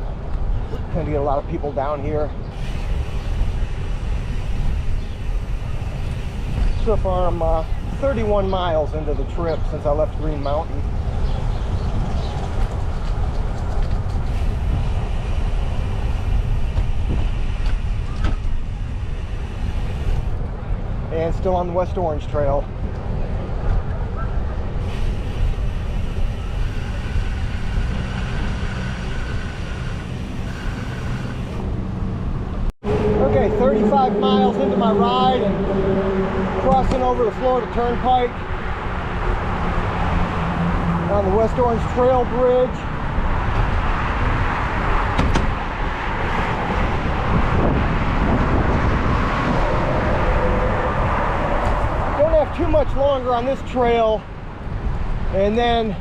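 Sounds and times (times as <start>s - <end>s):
highway traffic: 0.0s - 56.0s
wind rumble: 0.0s - 56.0s
bicycle tyre noise on pavement: 1.7s - 21.6s, 22.8s - 55.5s.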